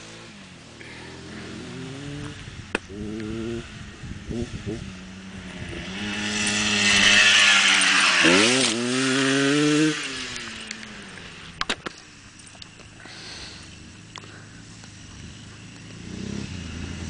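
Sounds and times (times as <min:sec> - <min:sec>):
dirt bike passing by: 0:00.0 - 0:17.0.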